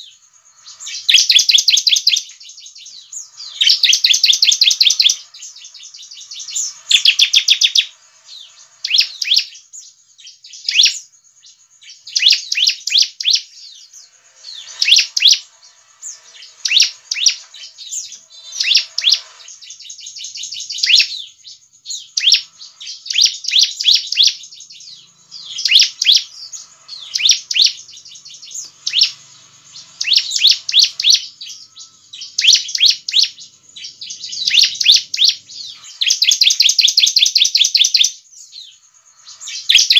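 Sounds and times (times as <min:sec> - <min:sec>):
bird singing trilled phrases: 0:00.0 - 0:39.9.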